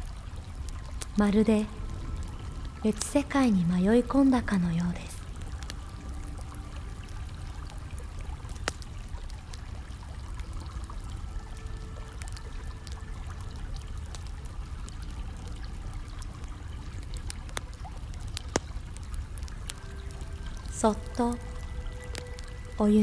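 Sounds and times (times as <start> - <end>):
water pouring and trickling: 0.0 - 23.0
wood fire crackling: 0.0 - 23.0.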